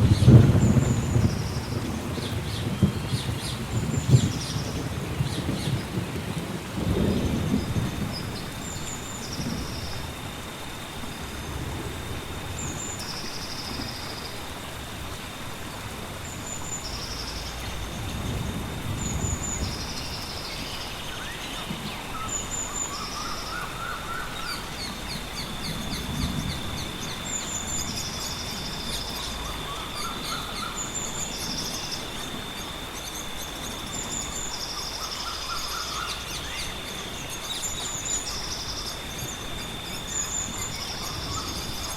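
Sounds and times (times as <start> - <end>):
songbirds singing: 0.0 - 10.2, 12.4 - 41.9
distant thunder rumbling: 0.0 - 35.0
gentle rain: 0.0 - 41.9.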